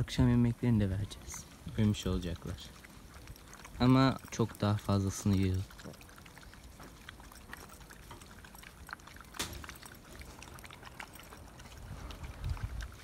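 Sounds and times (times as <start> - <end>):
dogs chewing and lapping: 0.0 - 13.0.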